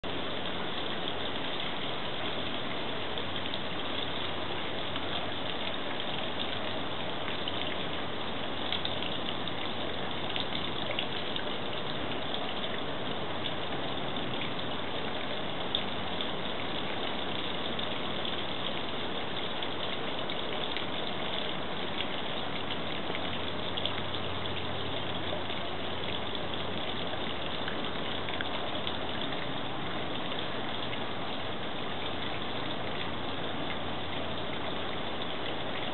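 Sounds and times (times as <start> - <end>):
fountain water splashing: 0.0 - 35.9.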